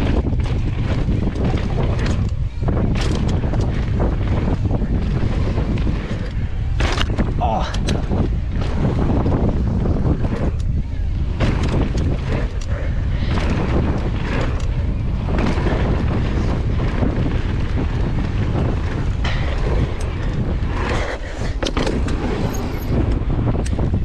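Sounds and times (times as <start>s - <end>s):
mountain bike clattering over dirt: 0.0s - 24.0s
wind rushing over microphone: 0.0s - 24.0s.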